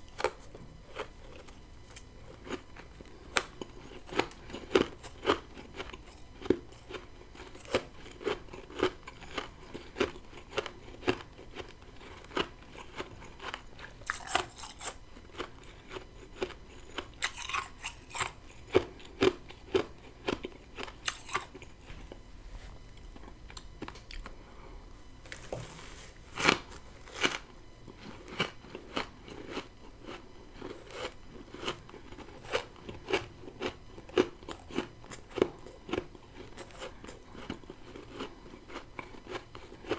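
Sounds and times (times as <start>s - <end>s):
chewing and crunching frost: 0.0s - 39.9s.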